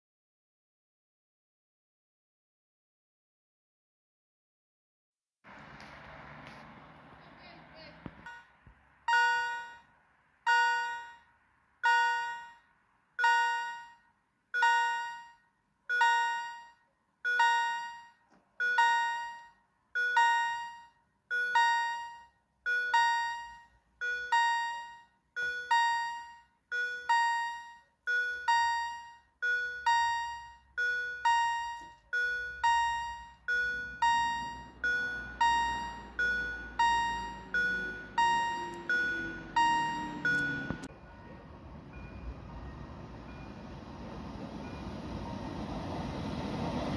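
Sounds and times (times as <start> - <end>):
level crossing warning bell: 6.1 - 46.9.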